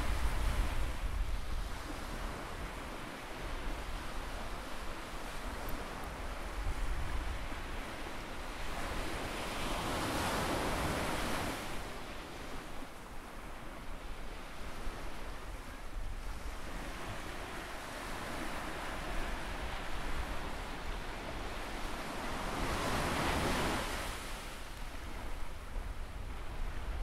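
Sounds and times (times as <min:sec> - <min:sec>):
waves breaking on beach: 0:00.0 - 0:27.0
wind rumble on microphone: 0:00.0 - 0:27.0.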